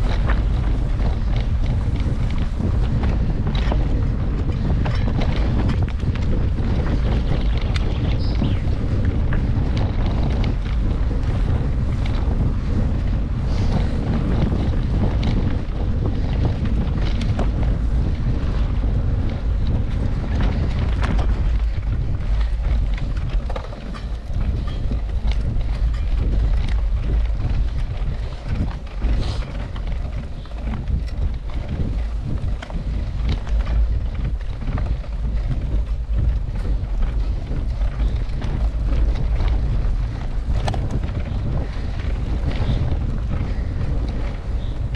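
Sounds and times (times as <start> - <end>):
bike clicks and knocks: 0.0 - 44.9
wind buffeting microphone: 0.0 - 44.9.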